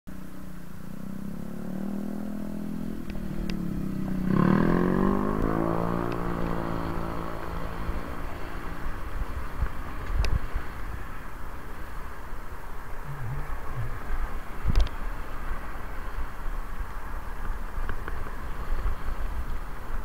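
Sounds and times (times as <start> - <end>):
vehicle engine idling and revving: 0.1 - 20.0.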